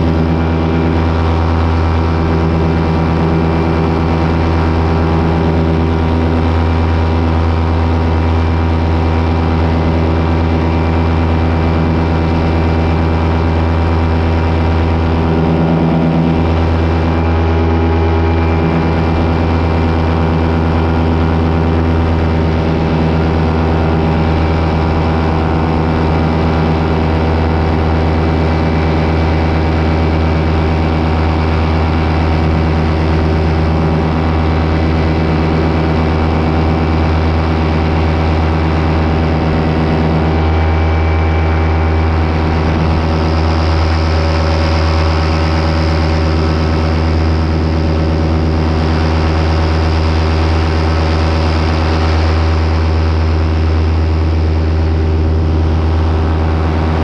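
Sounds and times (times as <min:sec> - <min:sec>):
small aircraft engine hum: 0:00.0 - 0:57.0.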